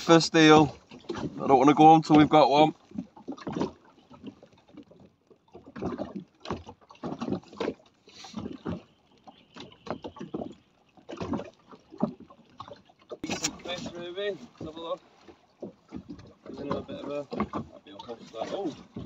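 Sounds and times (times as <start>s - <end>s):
water splashing against boat hull: 0.0s - 19.0s.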